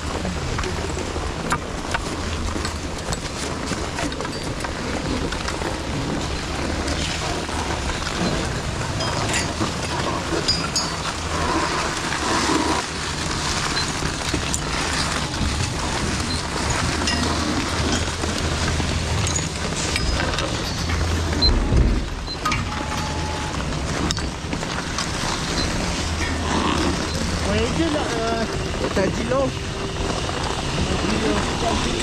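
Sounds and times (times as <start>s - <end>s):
skis scraping on packed snow: 0.0s - 22.2s, 23.0s - 32.0s
wind rumble on microphone: 0.0s - 32.0s.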